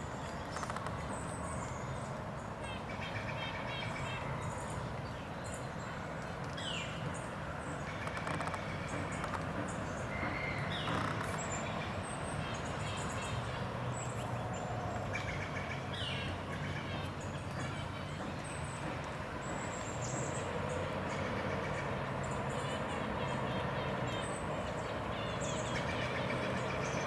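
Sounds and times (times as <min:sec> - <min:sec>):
distant traffic hum: 0:00.0 - 0:27.0.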